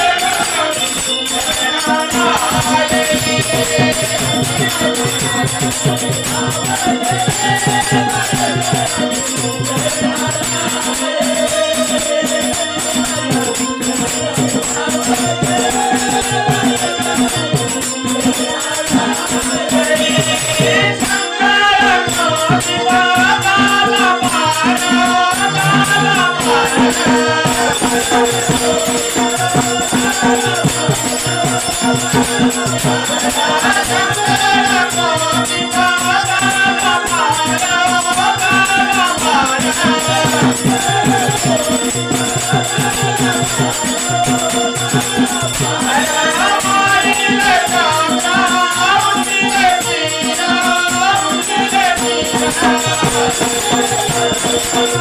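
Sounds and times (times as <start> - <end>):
rattling percussion: 0.0 - 55.0
voices singing a chant: 0.0 - 55.0.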